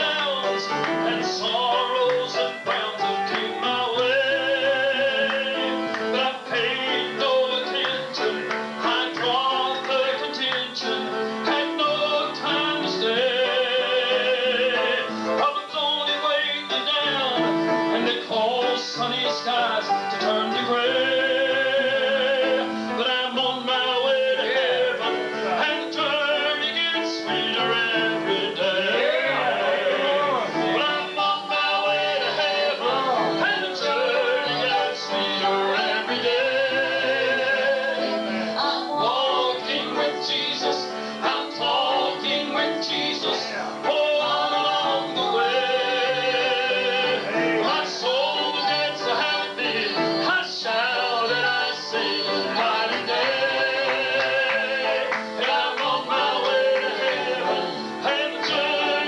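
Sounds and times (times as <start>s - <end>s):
gospel group singing: 0.0s - 59.0s
piano accompaniment: 0.0s - 59.0s.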